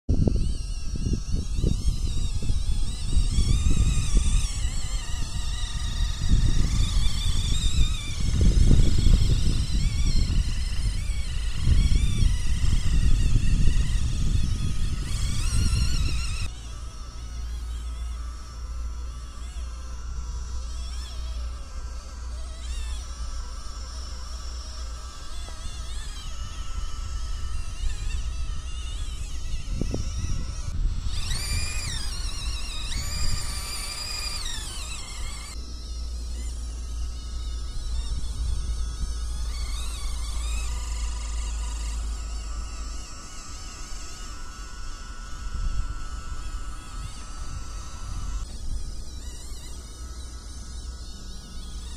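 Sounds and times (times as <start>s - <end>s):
electric motor and gearbox whining: 0.1s - 51.9s.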